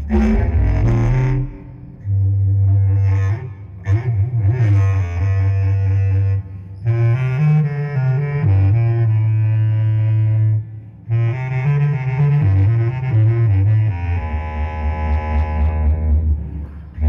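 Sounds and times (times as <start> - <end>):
bass clarinet low held notes: 0.0 - 17.0.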